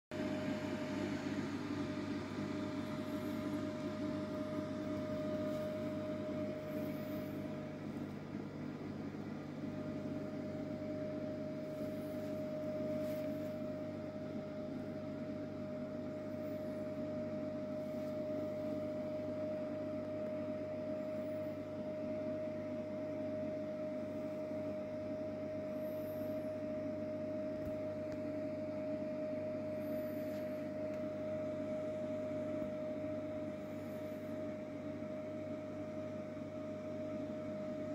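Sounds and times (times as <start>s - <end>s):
aquarium equipment hum and hiss: 0.2s - 37.9s
constant whining tone: 0.2s - 37.9s.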